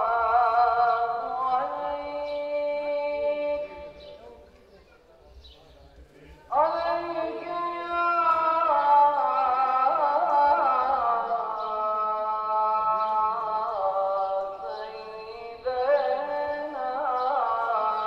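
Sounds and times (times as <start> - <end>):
person chanting: 0.0 - 4.6, 6.2 - 18.0.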